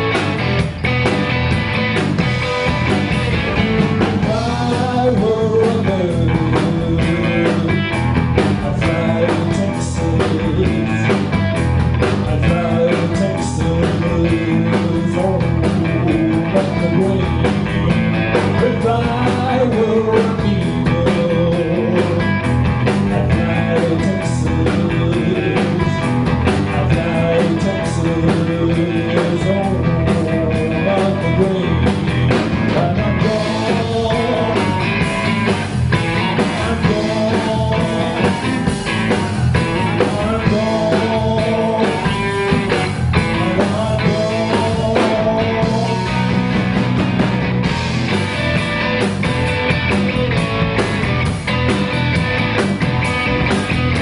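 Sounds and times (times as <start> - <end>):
blues-rock band playing: 0.0 - 54.0
electric guitar: 0.0 - 54.0
steady drum beat: 0.0 - 54.0.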